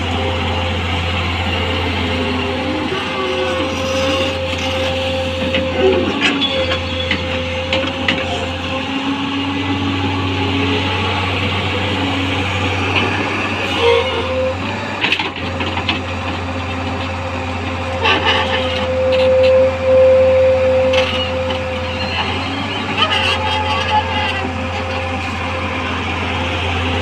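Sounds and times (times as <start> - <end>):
excavator diesel engine running: 0.0 - 27.0
hydraulic whine: 0.0 - 27.0.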